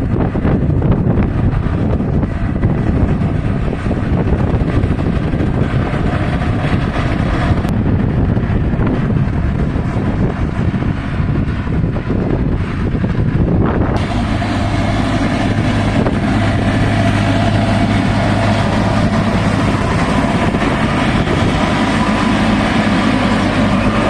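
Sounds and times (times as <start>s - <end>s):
tractor diesel engine running: 0.0s - 24.0s
wind buffeting microphone: 0.0s - 24.0s.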